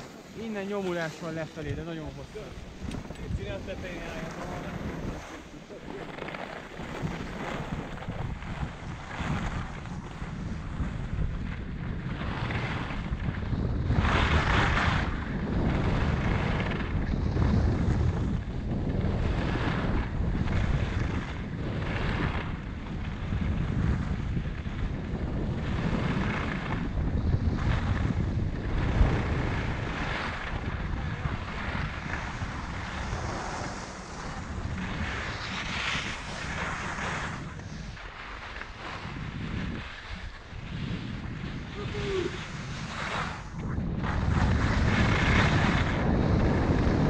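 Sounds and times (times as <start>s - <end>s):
skis scraping on snow: 0.0s - 47.0s
wind rumble on microphone: 0.0s - 47.0s.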